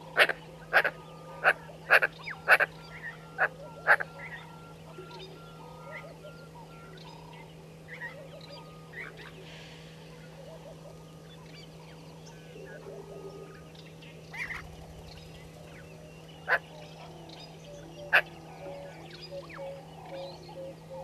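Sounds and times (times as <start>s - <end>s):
bird calls and chirps: 0.0s - 21.0s
steady low hum: 0.0s - 21.0s.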